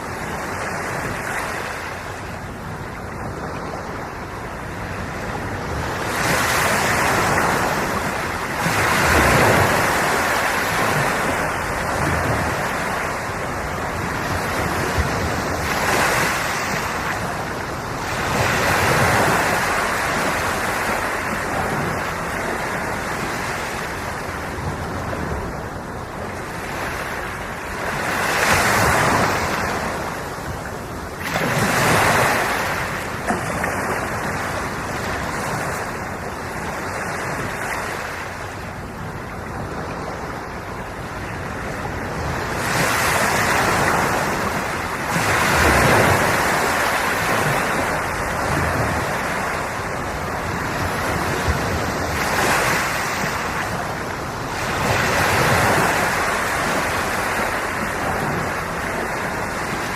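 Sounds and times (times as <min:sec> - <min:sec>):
ocean waves breaking: 0:00.0 - 0:59.9
wind on microphone: 0:00.0 - 0:59.9.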